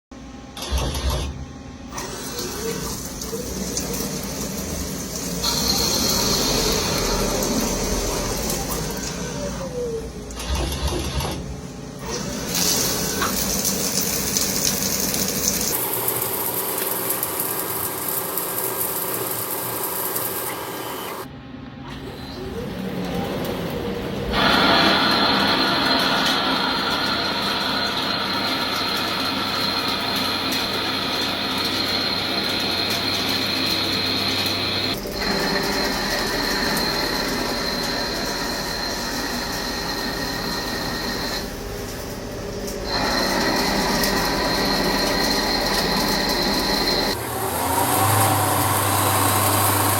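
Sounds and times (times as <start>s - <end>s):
metal lathe machining: 0.6s - 21.3s, 22.1s - 49.9s.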